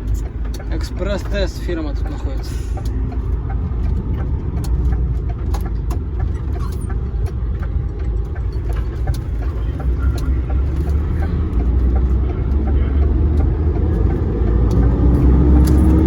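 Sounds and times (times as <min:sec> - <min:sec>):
diesel truck engine running: 0:00.0 - 0:16.0
road noise rumble: 0:00.0 - 0:16.0.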